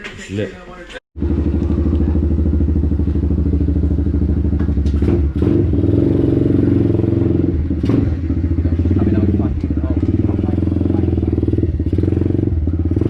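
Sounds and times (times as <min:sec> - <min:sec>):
small motorbike engine idling: 0:01.2 - 0:05.9, 0:06.6 - 0:13.0.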